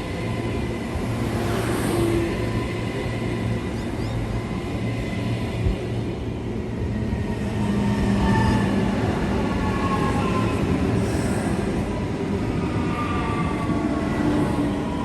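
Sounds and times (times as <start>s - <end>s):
electric train rumbling on tracks: 0.0s - 15.0s.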